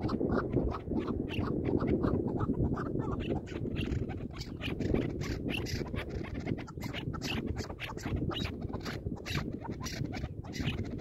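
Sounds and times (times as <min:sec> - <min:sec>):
partridges calling: 0:00.0 - 0:11.0
wind rumbling on microphone: 0:00.0 - 0:11.0.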